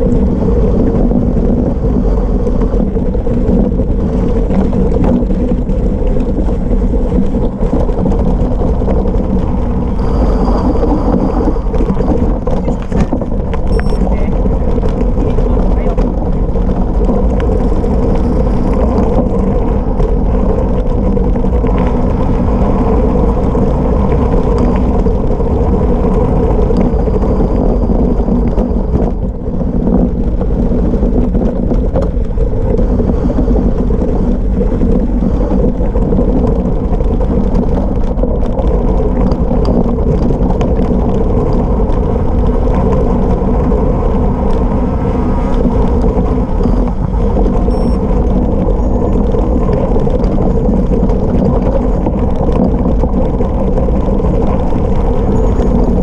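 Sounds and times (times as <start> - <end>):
bike rattling and knocking: 0.0 - 56.0
bike tyres rumbling on gravel: 0.0 - 56.0.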